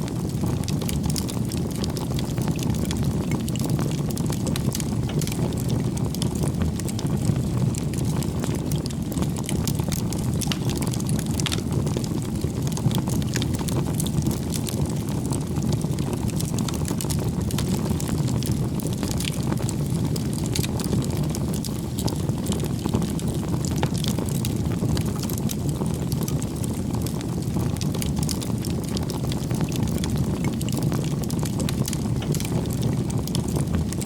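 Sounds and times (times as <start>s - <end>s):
bonfire rumbling and crackling: 0.0s - 34.0s.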